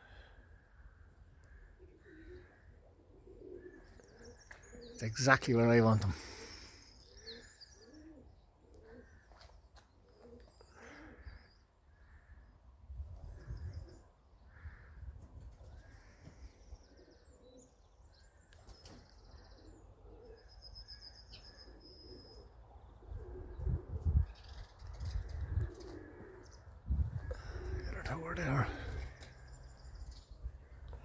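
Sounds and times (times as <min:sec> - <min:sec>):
small birds chirping: 0:00.1 - 0:12.4, 0:13.2 - 0:31.0
pigeons cooing: 0:01.5 - 0:05.2, 0:06.1 - 0:12.4, 0:13.2 - 0:31.0.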